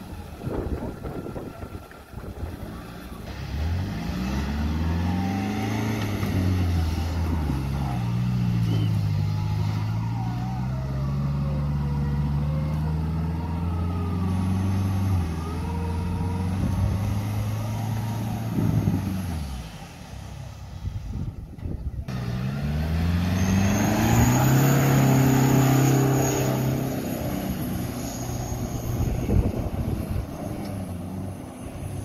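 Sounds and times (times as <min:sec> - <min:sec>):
engine revving under load: 0:02.3 - 0:21.3, 0:22.1 - 0:32.0.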